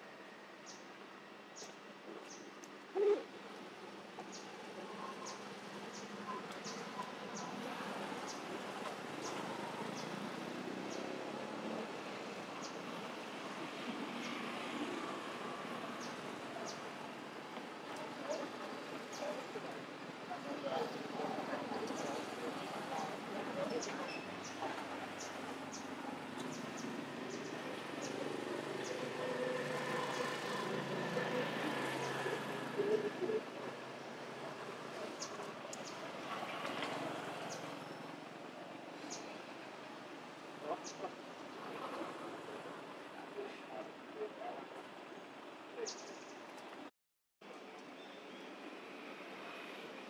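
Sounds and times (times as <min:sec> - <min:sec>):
outdoor background noise: 0:00.0 - 0:50.0.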